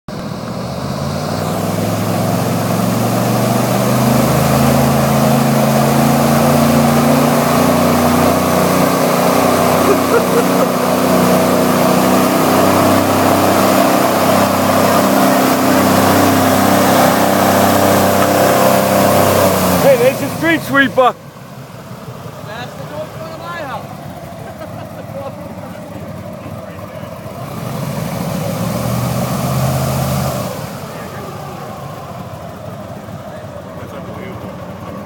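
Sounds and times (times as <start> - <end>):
airboat engine and propeller: 0.1 - 35.0.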